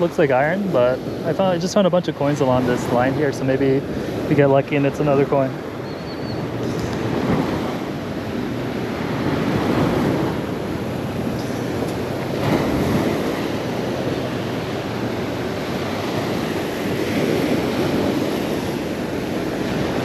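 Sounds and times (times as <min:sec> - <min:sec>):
surf washing onto beach: 0:00.0 - 0:05.8, 0:06.4 - 0:20.0
wind buffeting microphone: 0:00.0 - 0:20.0.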